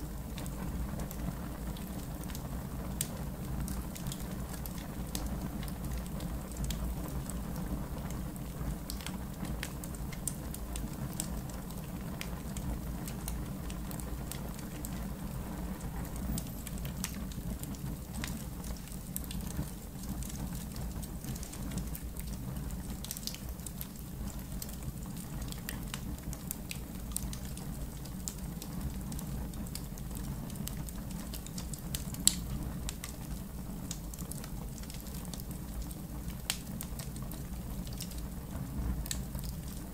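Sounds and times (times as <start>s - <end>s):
steady low fire rumble: 0.0s - 39.9s
wood fire crackling and popping: 0.0s - 39.9s.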